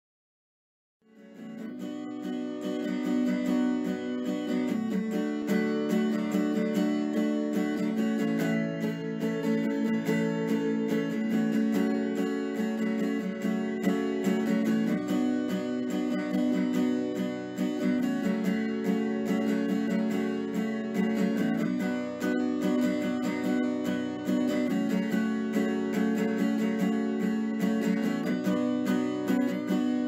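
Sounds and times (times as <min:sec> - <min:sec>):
strummed acoustic guitar: 0:01.1 - 0:30.0.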